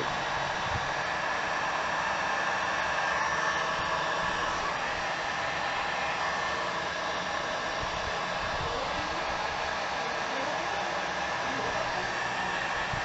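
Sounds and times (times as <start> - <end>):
heat gun blowing hot air: 0.0 - 13.0.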